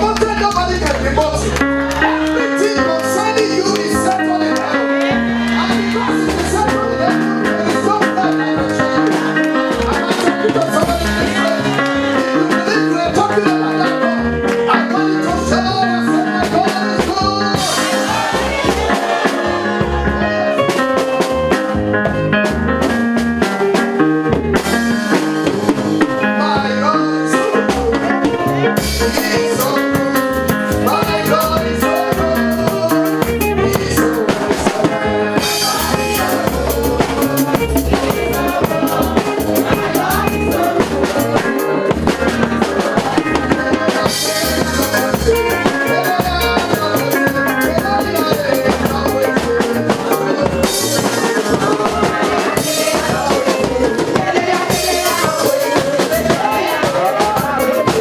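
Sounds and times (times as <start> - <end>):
person singing: 0.0 - 21.0, 26.2 - 58.0
live band music: 0.0 - 58.0.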